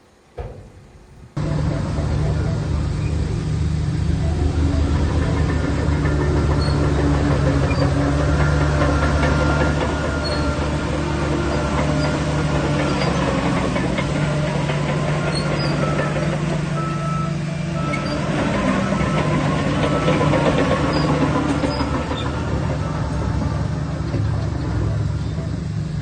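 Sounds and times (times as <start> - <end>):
bulldozer diesel engine running: 0.5 - 26.0.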